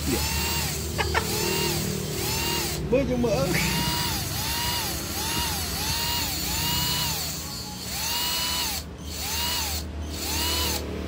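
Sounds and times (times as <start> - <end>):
cordless drill motor whining: 0.0 - 11.0.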